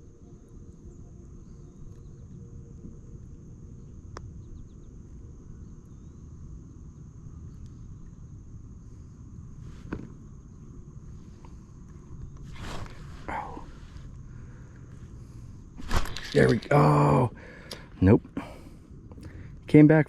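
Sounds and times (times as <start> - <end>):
faint bird chirps: 0.0 - 20.0
high insect drone: 0.0 - 20.0.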